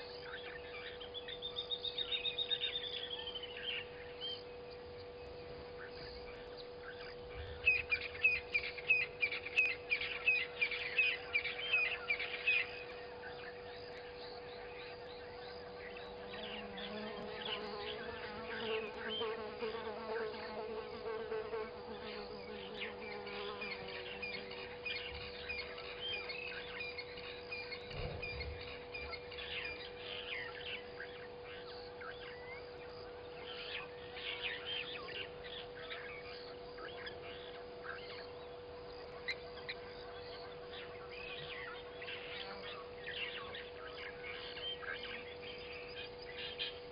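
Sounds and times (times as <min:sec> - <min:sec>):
birds calling: 0:00.0 - 0:46.9
steady hum: 0:00.0 - 0:46.9.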